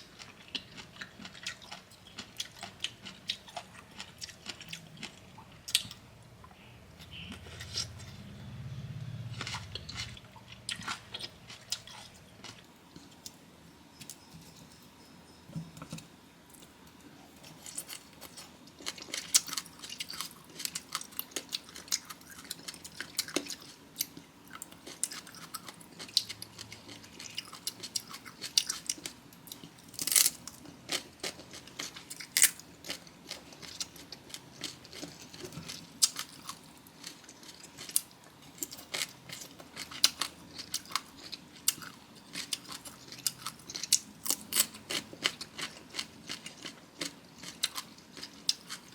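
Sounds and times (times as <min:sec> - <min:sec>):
crunchy chewing: 0:00.1 - 0:06.0, 0:09.3 - 0:13.4, 0:16.6 - 0:48.9.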